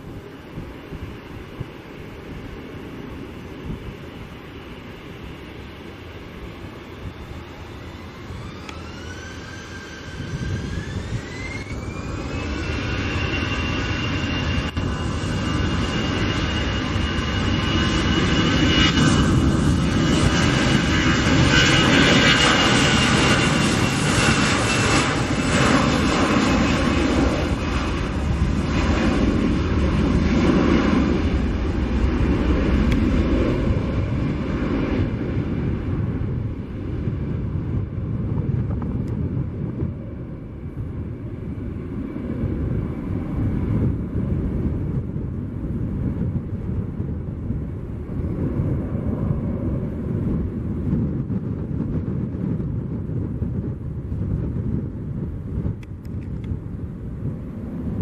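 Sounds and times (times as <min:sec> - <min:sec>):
jet engines roaring with whine: 0:00.0 - 0:58.0
low jet rumble: 0:00.0 - 0:58.0.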